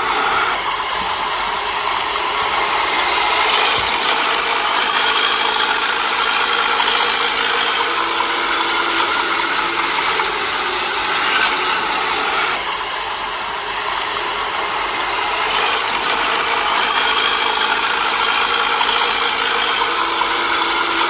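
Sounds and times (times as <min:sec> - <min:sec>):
bulldozer engine drone: 0:00.0 - 0:21.0
steel tracks clattering: 0:00.0 - 0:21.0.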